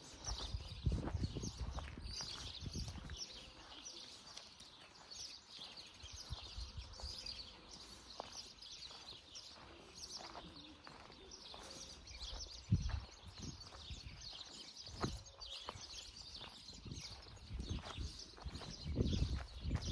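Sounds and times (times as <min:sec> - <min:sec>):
small birds chirping and singing: 0:00.0 - 0:19.9.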